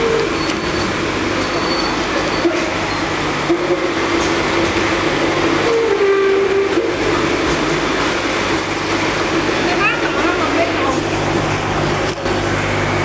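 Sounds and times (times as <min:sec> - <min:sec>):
conveyor running: 0:00.0 - 0:13.0.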